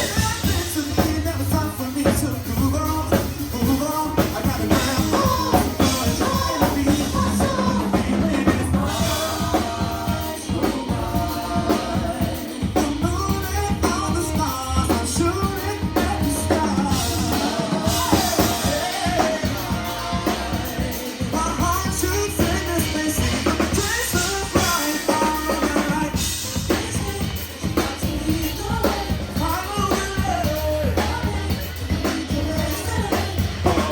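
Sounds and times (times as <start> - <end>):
live rock band playing: 0.0 - 33.9
person singing: 0.0 - 33.9.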